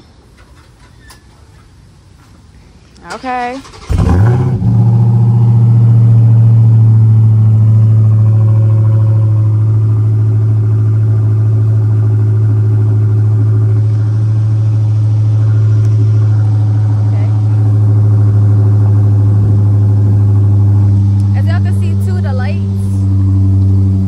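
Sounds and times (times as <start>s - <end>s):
loud car engine fast idle: 3.7s - 24.0s.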